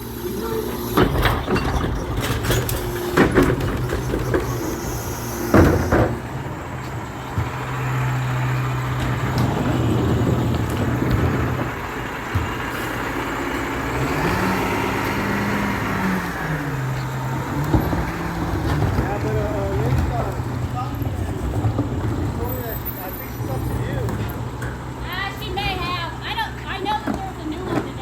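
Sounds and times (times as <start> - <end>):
garbage truck engine running: 0.0 - 28.0.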